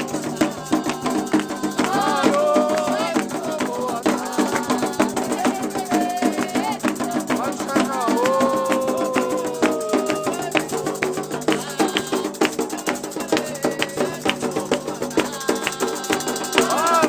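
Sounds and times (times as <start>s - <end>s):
drums and rattle rhythm: 0.0s - 17.0s
voices singing long notes: 0.0s - 17.0s.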